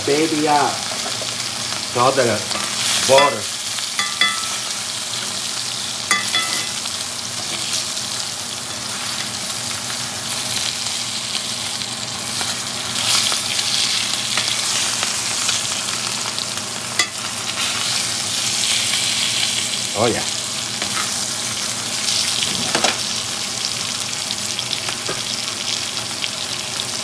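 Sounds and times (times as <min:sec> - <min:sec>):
steak sizzling in butter: 0:00.0 - 0:27.0.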